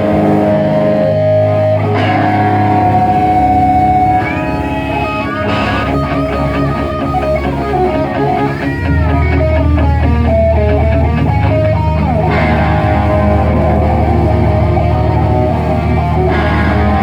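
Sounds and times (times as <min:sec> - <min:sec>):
electric guitar melody: 0:00.0 - 0:17.0
heavy low bass: 0:00.0 - 0:17.0.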